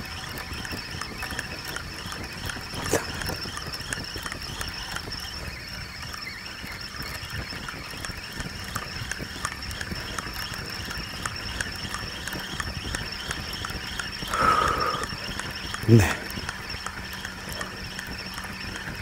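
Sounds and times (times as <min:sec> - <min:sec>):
thin steady high tone: 0:00.0 - 0:19.0
faint ticks: 0:00.1 - 0:19.0.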